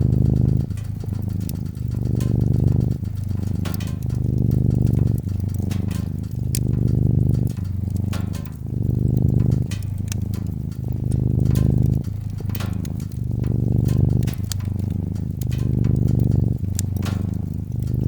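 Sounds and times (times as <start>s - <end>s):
cat purring: 0.0s - 18.0s
wood fire crackling and popping: 0.0s - 18.0s.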